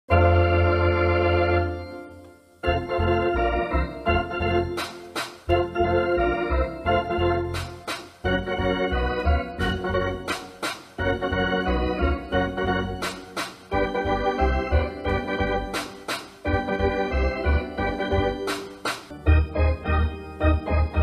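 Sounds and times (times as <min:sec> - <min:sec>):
organ music: 0:00.1 - 0:21.0.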